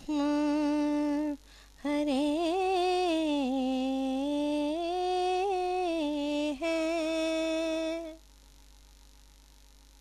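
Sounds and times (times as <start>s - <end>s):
woman singing unaccompanied: 0.0s - 8.2s.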